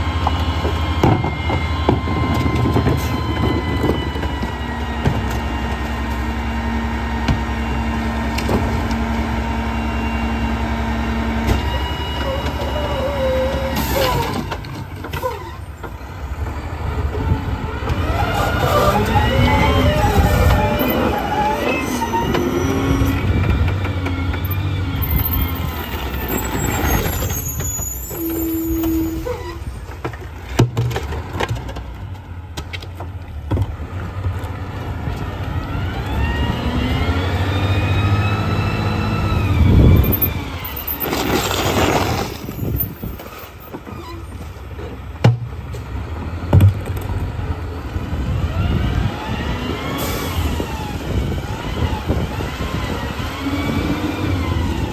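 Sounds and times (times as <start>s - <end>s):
diesel engine idling and revving: 0.0s - 30.4s, 31.1s - 41.3s, 42.2s - 54.9s.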